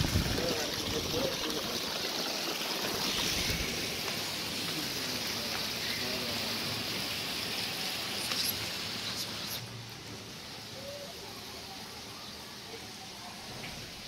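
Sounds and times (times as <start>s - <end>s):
fountain water trickling into basin: 0.0s - 14.0s.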